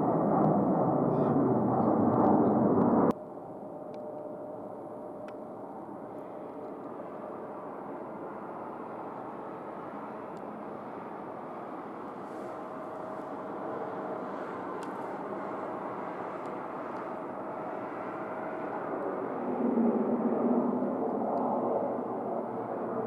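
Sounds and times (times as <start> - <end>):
airport background rumble: 0.0 - 23.0
jet engine roar: 0.0 - 23.0.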